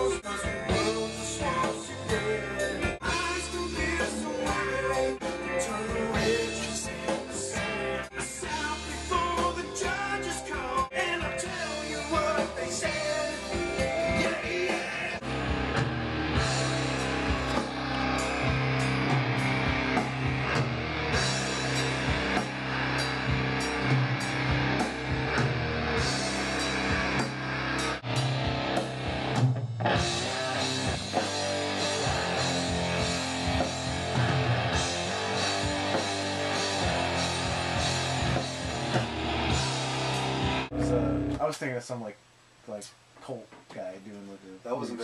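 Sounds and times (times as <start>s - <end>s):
electric guitar: 0.0s - 41.4s
drum kit playing: 0.0s - 41.6s.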